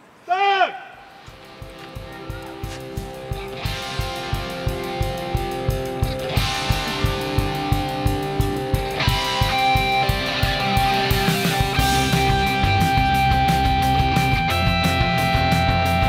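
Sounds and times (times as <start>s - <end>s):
guitar music over a beat: 1.3s - 16.0s.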